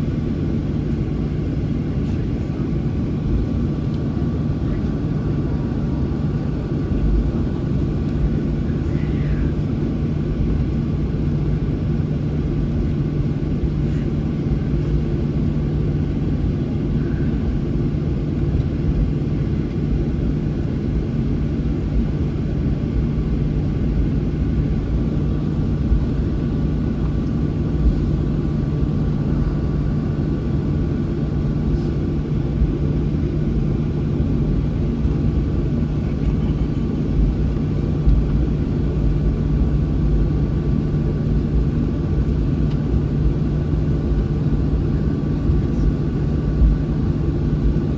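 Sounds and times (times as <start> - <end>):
jet engines humming in cabin: 0.0 - 47.9.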